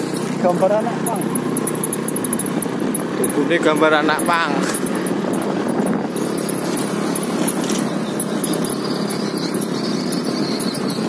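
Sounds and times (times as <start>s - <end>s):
motorcycle engine running: 0.0s - 11.0s
road noise: 0.0s - 11.0s
wind noise: 2.0s - 11.0s.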